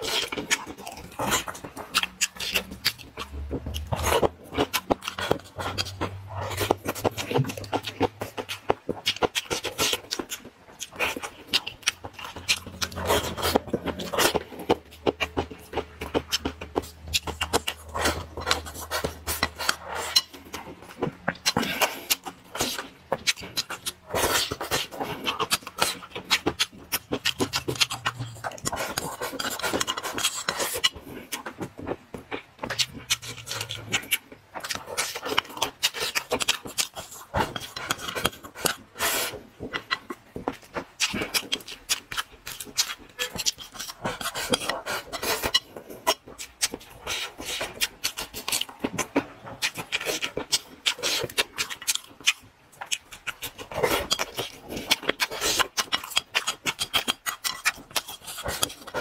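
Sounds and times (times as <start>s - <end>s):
close-up chewing and mouth smacking: 0.0s - 59.0s.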